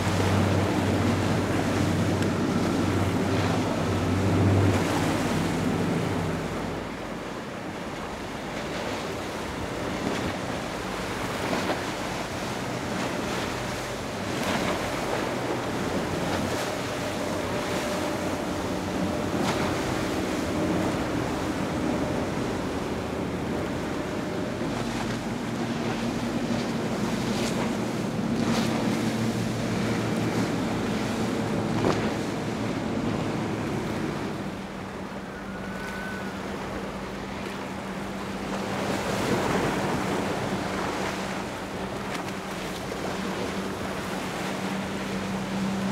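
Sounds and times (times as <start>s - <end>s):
boat engine drone: 0.0s - 45.9s
surf wash: 0.0s - 45.9s.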